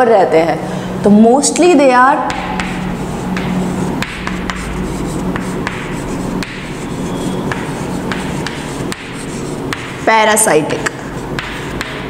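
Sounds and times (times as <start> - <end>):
steady background hiss: 0.0 - 12.0
chalk scratching on blackboard: 2.2 - 12.0
chalk tapping on board: 2.2 - 12.0.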